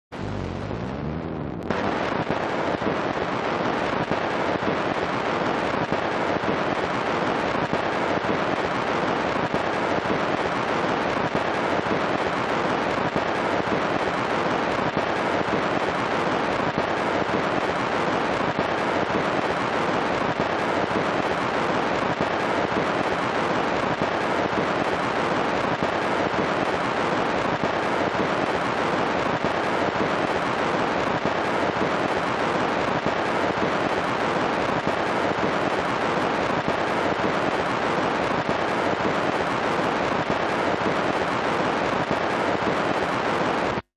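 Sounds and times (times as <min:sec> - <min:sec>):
vinyl record crackle and hiss: 0:00.1 - 0:43.9.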